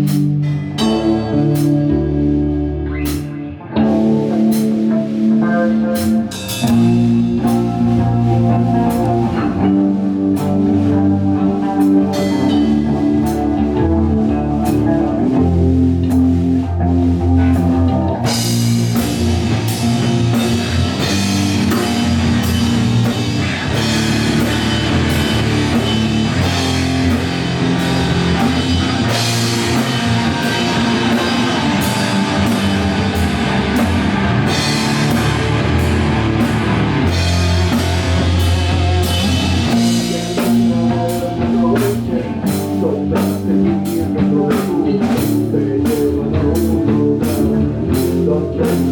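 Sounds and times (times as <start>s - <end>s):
heavy metal band playing: 0.0s - 48.9s.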